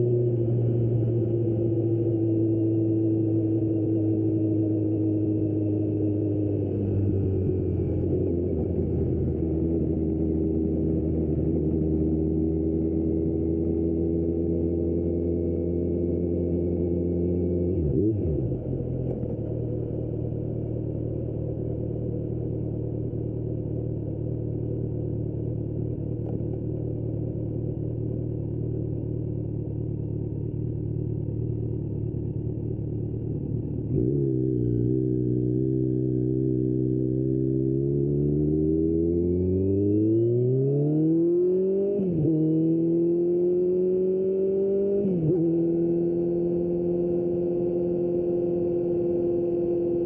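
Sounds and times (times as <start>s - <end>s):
motorcycle engine revving: 0.0s - 26.6s, 30.3s - 50.0s.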